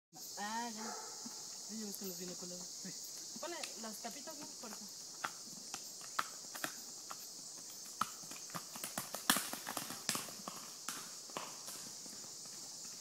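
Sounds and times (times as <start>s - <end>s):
high insect drone: 0.1s - 13.0s
hooves clopping on dirt: 0.8s - 13.0s.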